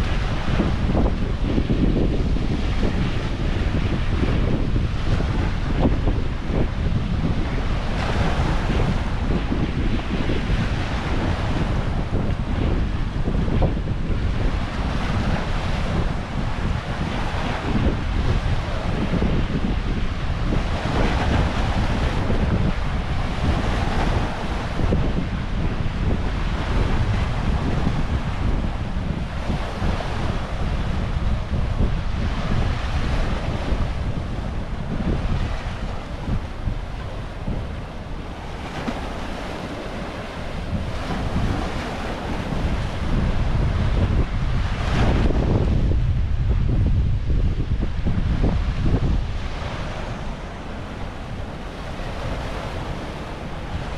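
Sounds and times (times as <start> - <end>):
ocean waves breaking: 0.0 - 53.9
wind buffeting microphone: 0.0 - 53.9.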